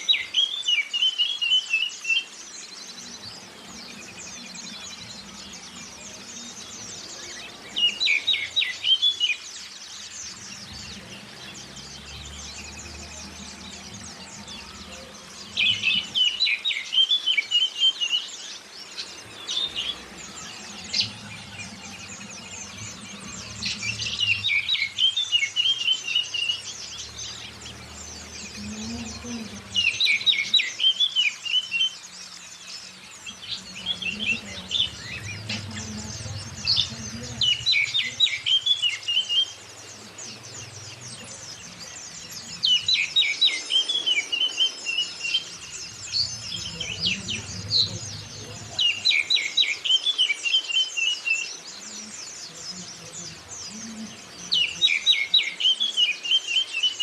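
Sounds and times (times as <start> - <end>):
faint high bird twittering: 0.0 - 57.0
loud rapid birdsong phrases: 0.0 - 57.0.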